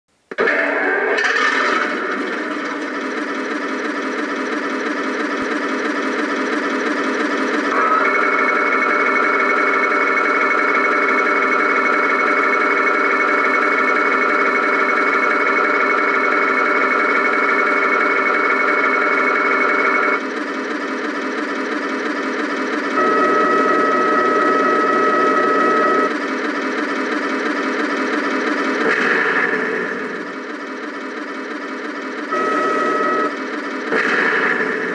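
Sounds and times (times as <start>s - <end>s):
turret traverse whine: 0.3s - 34.9s
tank engine idling through speaker: 0.4s - 34.9s.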